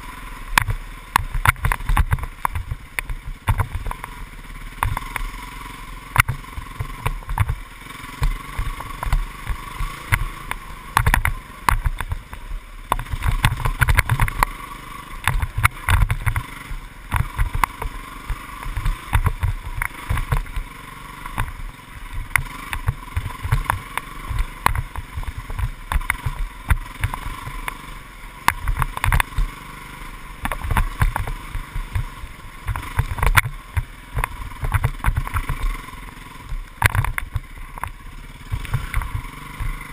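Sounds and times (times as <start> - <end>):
dirt bike engine running: 0.0 - 39.9
knocks and rattles over bumps: 0.0 - 39.9.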